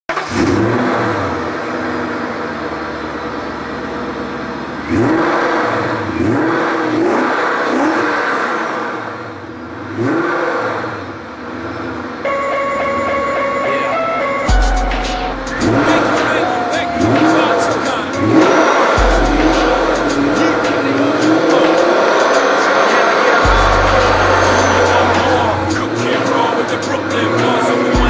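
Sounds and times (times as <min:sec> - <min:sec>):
car engine revving: 0:00.1 - 0:28.0.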